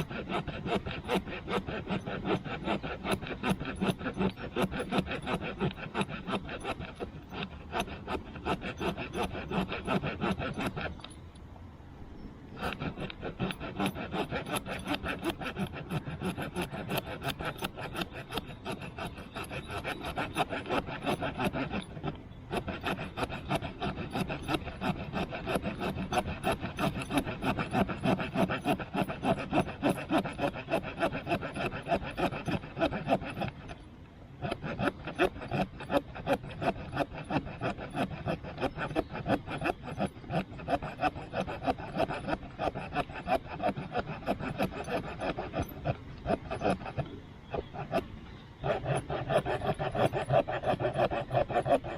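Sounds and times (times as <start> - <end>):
saw blade sawing wet stick: 0.0 - 11.6, 12.2 - 51.9.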